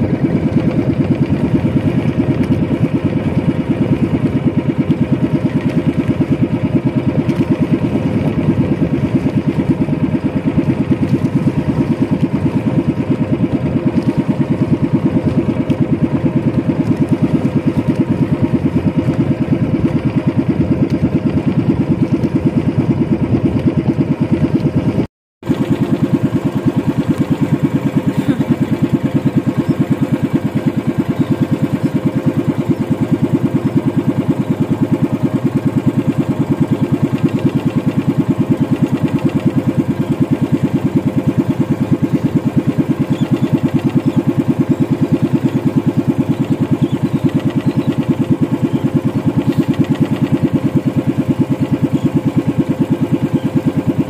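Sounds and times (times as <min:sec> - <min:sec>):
small boat engine puttering: 0:00.0 - 0:54.0.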